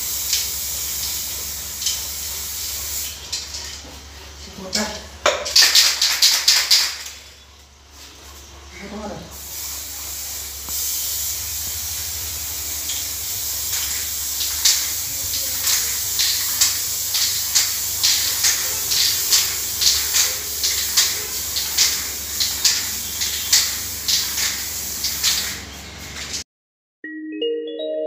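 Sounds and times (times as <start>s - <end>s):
spray paint can hissing: 0.0s - 4.2s, 5.5s - 7.2s, 9.4s - 26.4s.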